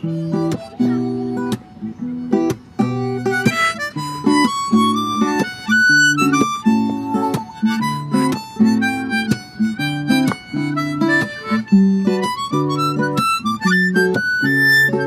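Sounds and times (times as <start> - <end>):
harmonica melody: 0.0 - 15.0
strummed acoustic guitar chords: 0.0 - 15.0.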